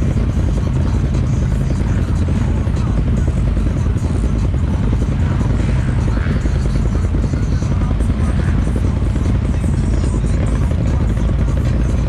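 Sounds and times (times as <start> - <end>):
engines idling: 0.0 - 12.0.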